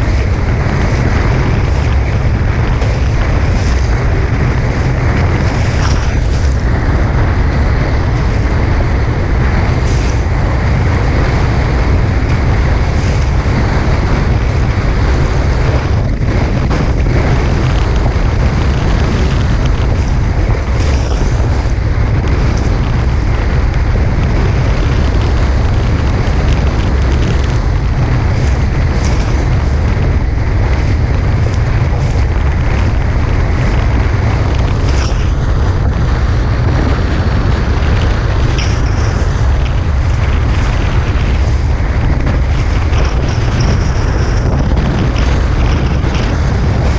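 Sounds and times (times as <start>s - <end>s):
water rushing past hulls: 0.0s - 46.9s
wind buffeting microphone: 0.0s - 46.9s.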